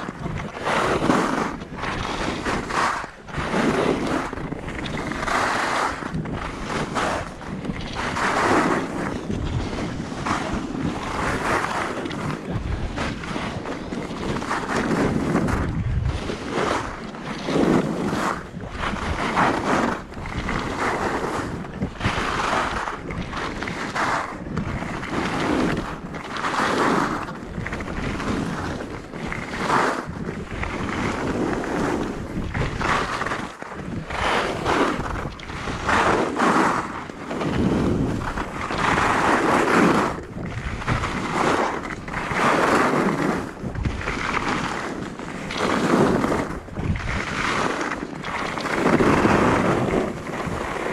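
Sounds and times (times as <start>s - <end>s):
skis scraping over snow: 0.0s - 50.9s
wind rushing over microphone: 0.0s - 50.9s.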